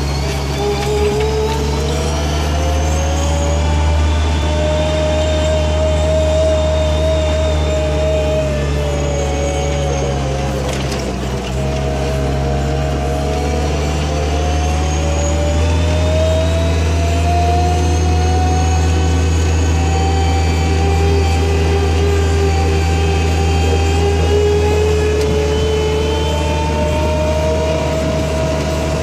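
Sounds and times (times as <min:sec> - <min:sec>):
compact loader engine humming: 0:00.0 - 0:29.0
drive whine: 0:00.0 - 0:29.0.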